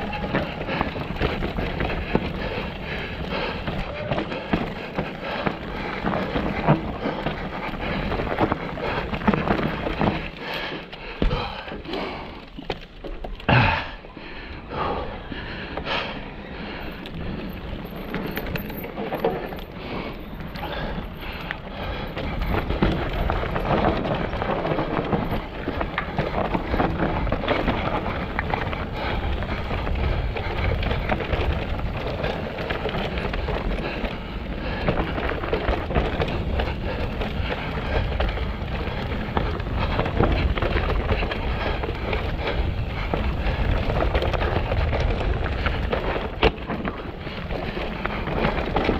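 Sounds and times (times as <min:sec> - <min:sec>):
bike rattling and knocking: 0:00.0 - 0:13.9, 0:16.7 - 0:48.9
bike tyres rumbling over rock: 0:00.0 - 0:14.0, 0:16.7 - 0:48.9.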